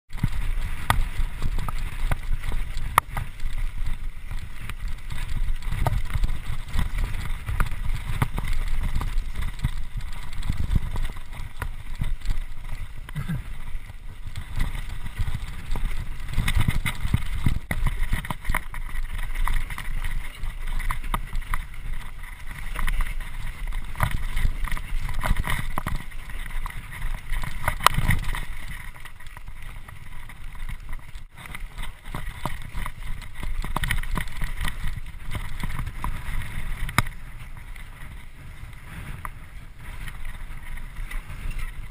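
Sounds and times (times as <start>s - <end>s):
bike knocks and rattles: 0.1s - 41.9s
wind buffeting microphone: 0.1s - 41.9s.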